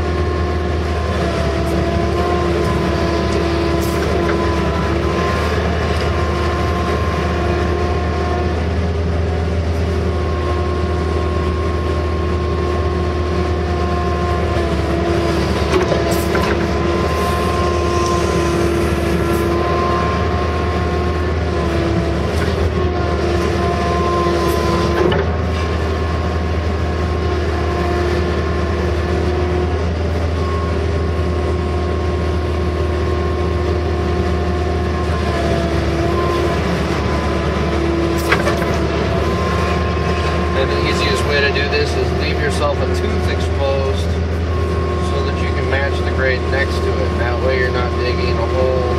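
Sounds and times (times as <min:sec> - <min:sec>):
diesel engine drone: 0:00.0 - 0:48.9
hydraulic whine: 0:00.0 - 0:48.9.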